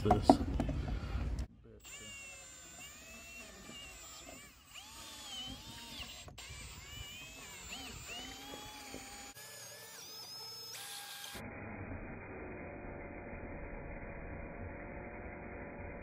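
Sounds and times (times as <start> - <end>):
cordless drill motor whining: 0.6 - 16.0.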